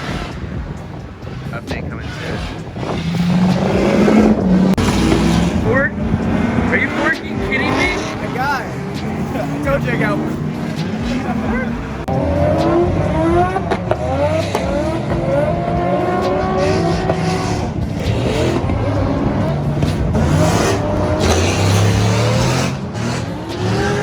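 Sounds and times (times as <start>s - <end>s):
car engine revving hard: 0.0s - 24.0s
tyre noise: 0.0s - 24.0s.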